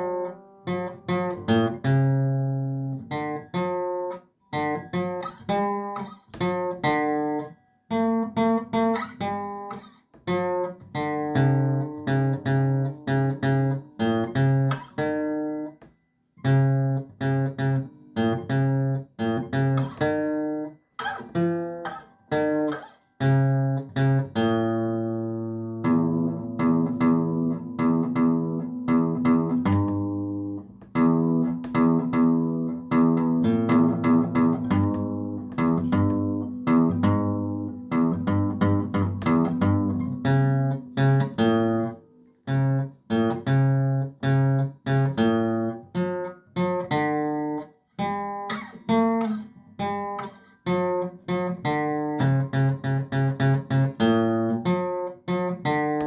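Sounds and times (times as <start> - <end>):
guitar notes plucked: 0.0 - 56.0.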